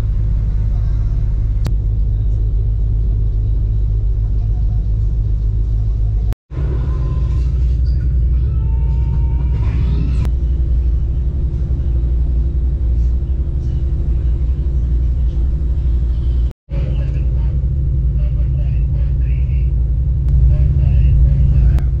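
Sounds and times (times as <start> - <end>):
ferry engines rumbling: 0.0 - 22.0
steady hum: 0.0 - 22.0.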